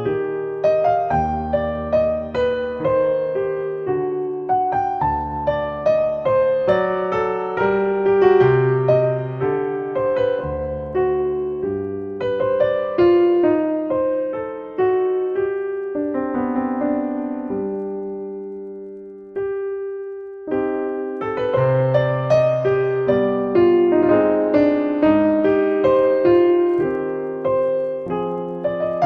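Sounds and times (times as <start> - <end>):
solo piano music: 0.0 - 29.0.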